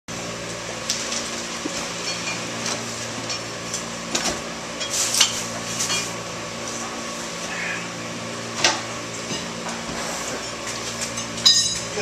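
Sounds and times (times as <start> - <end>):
machinery humming: 0.1 - 12.0.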